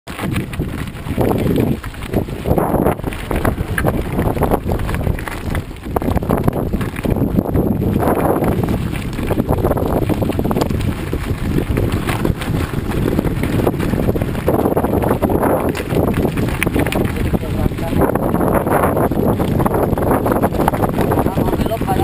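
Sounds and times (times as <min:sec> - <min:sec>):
bicycle tyres crunching on gravel: 0:00.1 - 0:22.0
wind buffeting microphone: 0:00.1 - 0:22.0.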